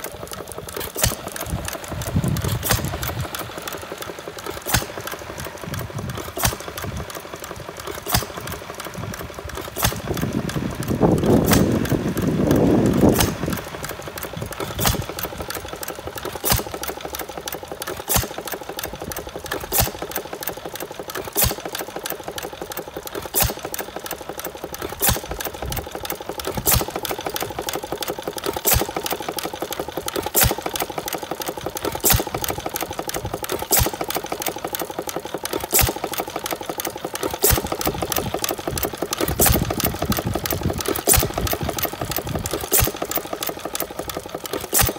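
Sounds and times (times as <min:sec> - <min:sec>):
engine light clatter: 0:00.0 - 0:44.9.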